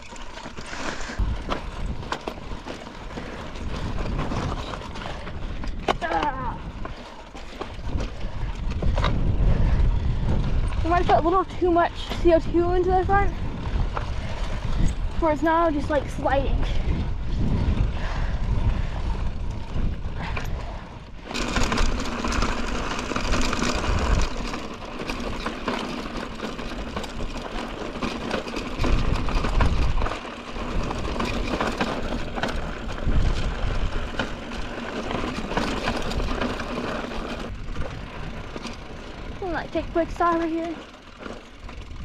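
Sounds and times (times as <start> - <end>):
bike drivetrain rattling: 0.0 - 42.0
bike tyres crunching over gravel: 0.0 - 42.0
wind buffeting microphone: 0.7 - 42.0.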